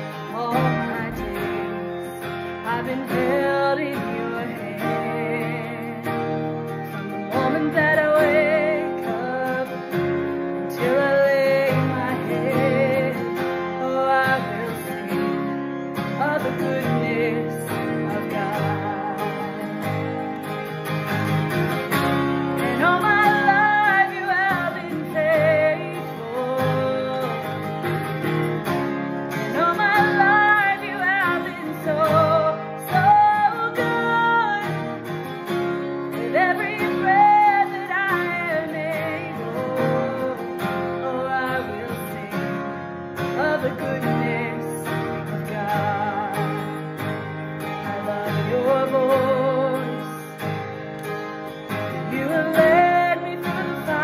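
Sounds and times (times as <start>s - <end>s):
strummed acoustic guitars: 0.0s - 54.0s
woman singing: 0.0s - 54.0s.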